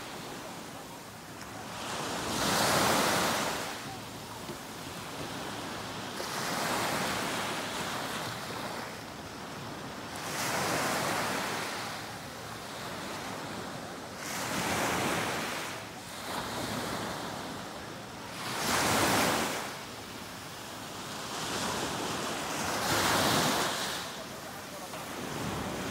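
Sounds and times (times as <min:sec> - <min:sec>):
small waves breaking on beach: 0:00.0 - 0:25.9.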